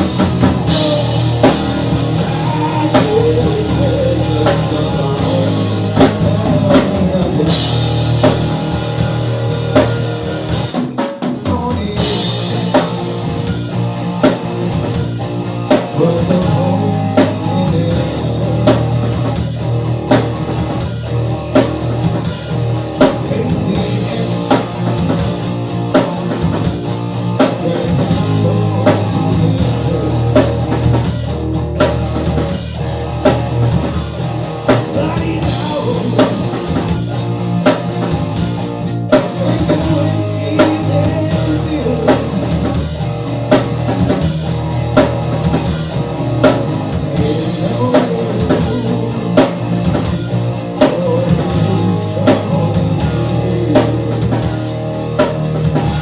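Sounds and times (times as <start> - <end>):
bass guitar: 0.0 - 56.0
drum kit steady beat: 0.0 - 56.0
electric guitar: 0.0 - 56.0
rock music: 0.0 - 56.0.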